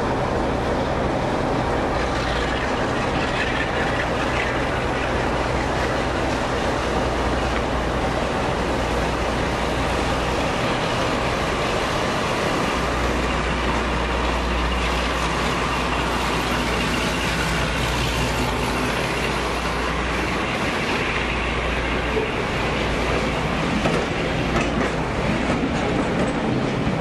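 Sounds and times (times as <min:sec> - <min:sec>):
diesel locomotive engines droning: 0:00.0 - 0:27.0
train coaches rolling: 0:00.0 - 0:27.0.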